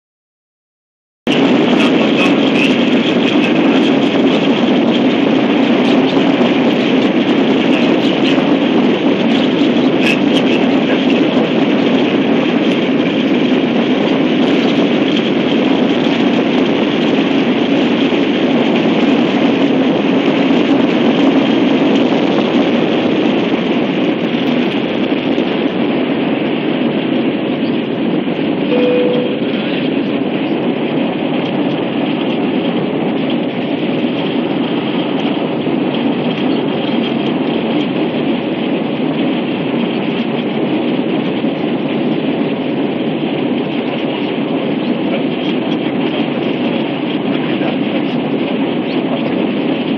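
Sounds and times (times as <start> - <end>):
jet engines from cabin: 1.3 - 49.9.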